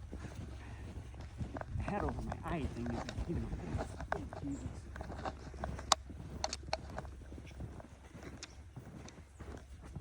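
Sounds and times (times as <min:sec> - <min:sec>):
footsteps crunching in snow: 0:00.0 - 0:10.0.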